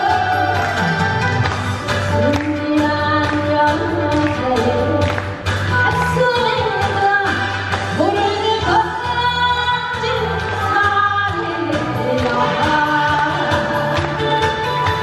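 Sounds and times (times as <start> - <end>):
amplified music with bass and beat: 0.0 - 15.0
woman singing through pa: 2.2 - 14.6.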